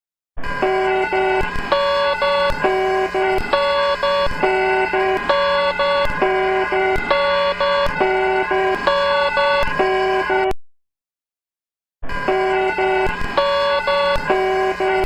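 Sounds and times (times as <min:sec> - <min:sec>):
stepped electronic alarm tones: 0:00.4 - 0:10.6, 0:12.0 - 0:15.0.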